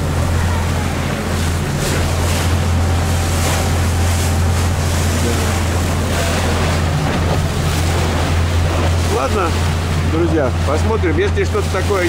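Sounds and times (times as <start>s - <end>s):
boat engine drone: 0.0s - 12.0s
water rushing along hull: 0.0s - 12.0s.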